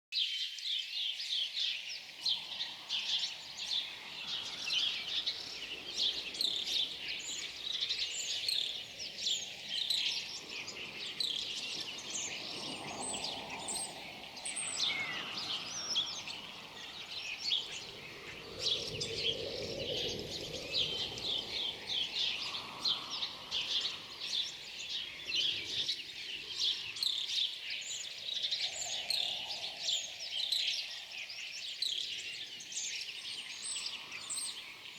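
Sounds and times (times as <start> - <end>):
small songbirds chirping: 0.1 - 34.9.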